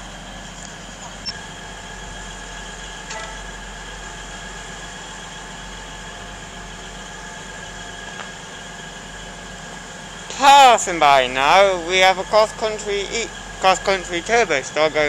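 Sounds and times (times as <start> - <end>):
diesel train engine idling: 0.0 - 15.0
whining tones: 0.0 - 15.0.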